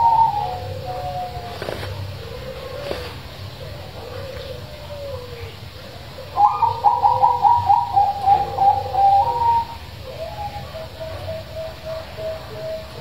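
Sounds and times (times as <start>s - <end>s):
soft low dove coos: 0.0s - 13.0s
zebra dove cooing trill: 0.0s - 13.0s.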